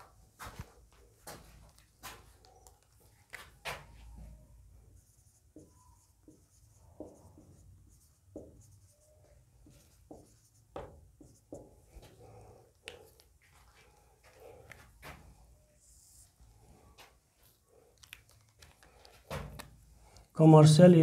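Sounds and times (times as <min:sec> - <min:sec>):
marker writing on whiteboard: 0:01.7 - 0:20.3.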